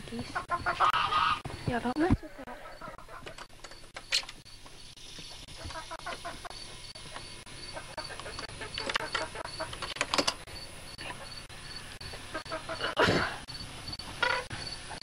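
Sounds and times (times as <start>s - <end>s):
poultry squawking and clucking: 0.0s - 4.0s, 5.3s - 15.0s.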